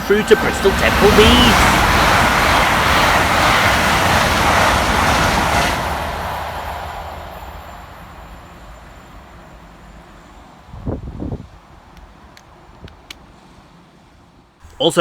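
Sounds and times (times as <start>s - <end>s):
train passing fast: 0.0s - 15.0s.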